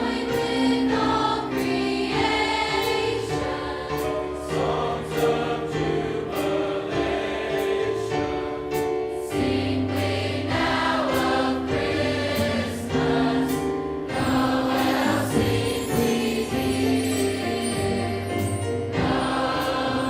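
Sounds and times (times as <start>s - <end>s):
choir singing with accompaniment: 0.0s - 20.0s.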